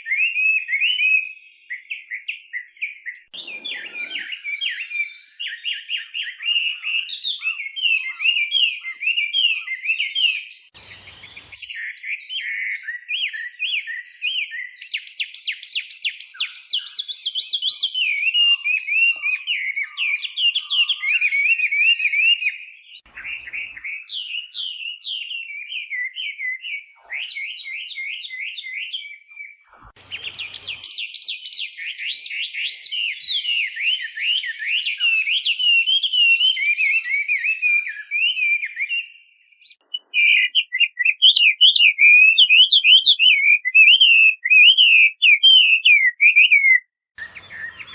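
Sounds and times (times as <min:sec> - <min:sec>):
bird singing whistled song: 0:00.0 - 0:47.9.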